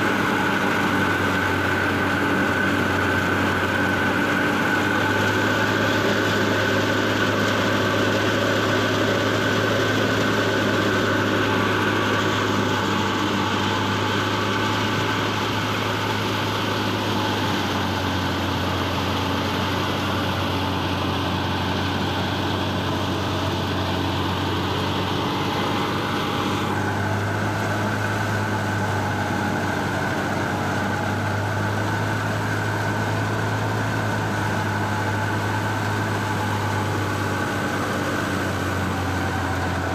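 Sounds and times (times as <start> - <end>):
threshing drum and blower noise: 0.0 - 39.9
tractor engine hum: 0.0 - 39.9.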